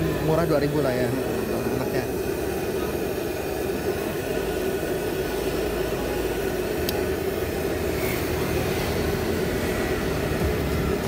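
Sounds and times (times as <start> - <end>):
batter deep-frying in oil: 0.0 - 11.0.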